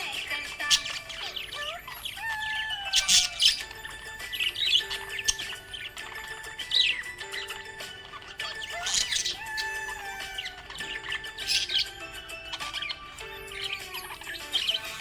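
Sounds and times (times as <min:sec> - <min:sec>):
budgerigar chirping and warbling: 0:00.0 - 0:15.0.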